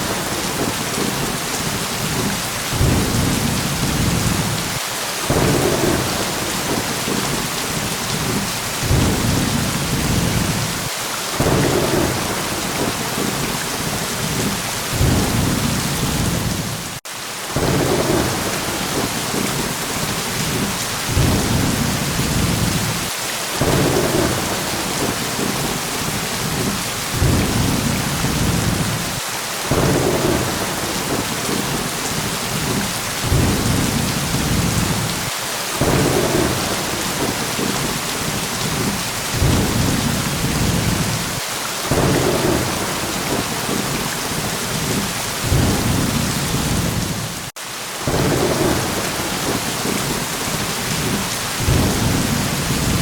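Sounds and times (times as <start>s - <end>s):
low thunder rumbles: 0.0s - 17.0s, 17.6s - 47.5s, 48.1s - 53.0s
heavy rain: 0.0s - 53.0s.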